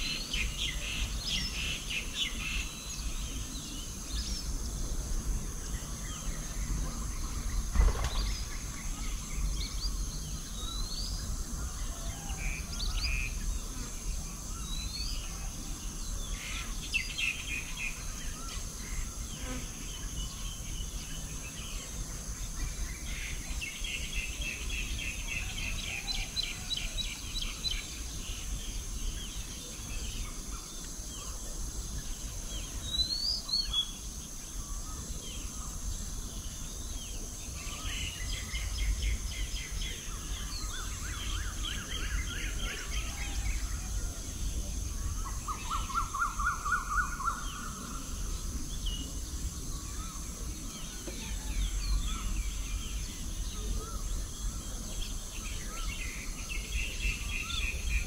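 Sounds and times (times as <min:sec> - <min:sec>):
songbirds chattering: 0:00.0 - 0:58.0.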